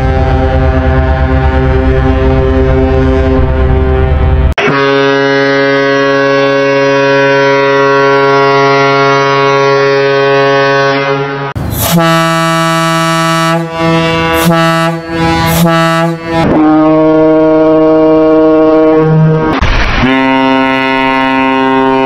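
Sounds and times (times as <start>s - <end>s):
higher ship horn blasts: 0.0s - 22.0s
low ship horn blast: 0.0s - 22.0s.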